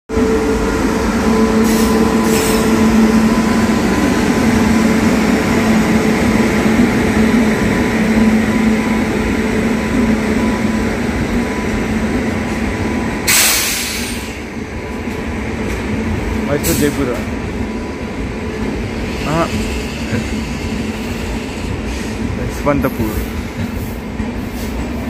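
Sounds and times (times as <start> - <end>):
train wheels rumbling on rails: 0.1 - 25.0.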